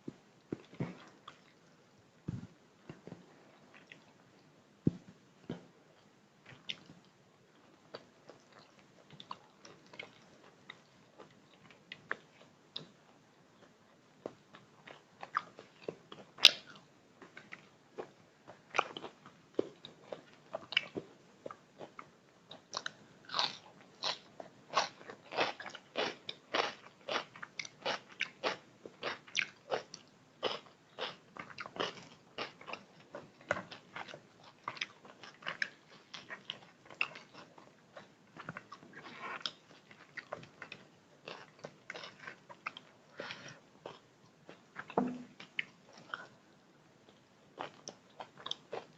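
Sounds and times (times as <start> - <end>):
person chewing food: 0.4 - 4.2, 4.9 - 13.0, 13.6 - 46.4, 47.0 - 48.9.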